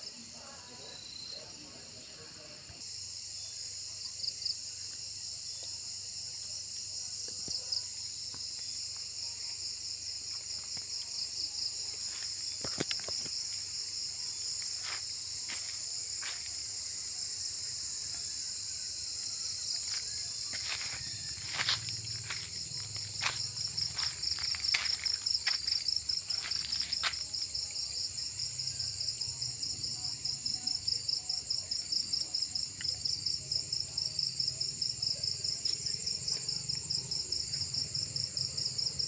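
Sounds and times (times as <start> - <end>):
crickets and insects trilling: 0.0 - 39.0.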